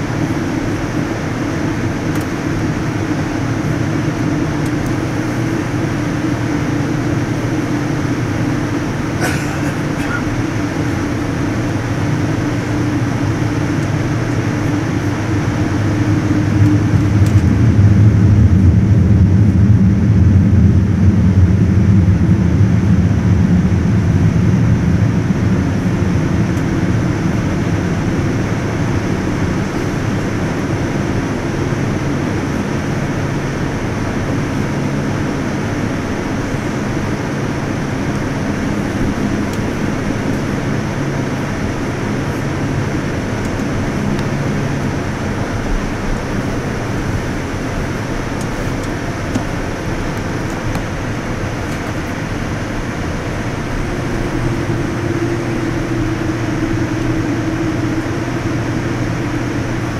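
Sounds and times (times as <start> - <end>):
jet rolling on taxiway: 0.0 - 59.9
low rumble of jet engines: 0.0 - 59.9.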